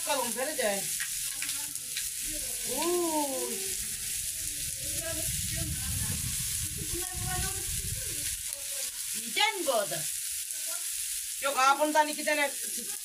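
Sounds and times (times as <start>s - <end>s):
chicken sizzling on a griddle: 0.0s - 13.0s.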